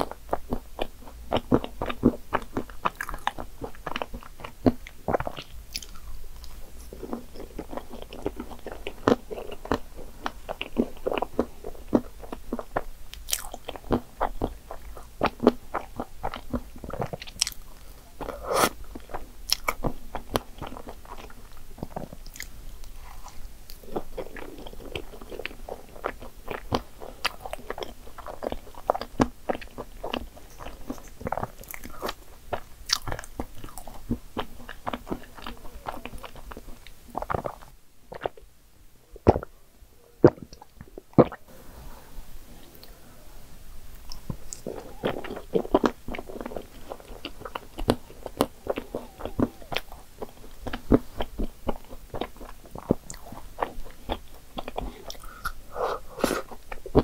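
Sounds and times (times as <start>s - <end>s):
person chewing and biting: 0.0s - 38.4s, 44.1s - 57.0s.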